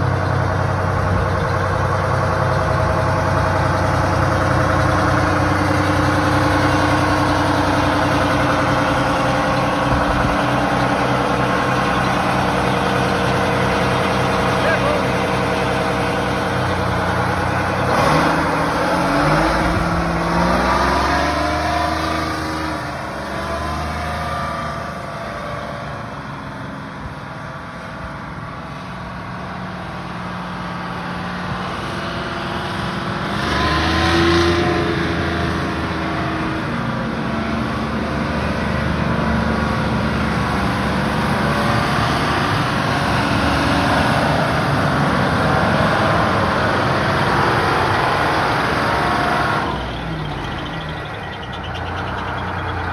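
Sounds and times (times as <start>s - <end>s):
truck diesel engine revving: 0.0s - 52.9s.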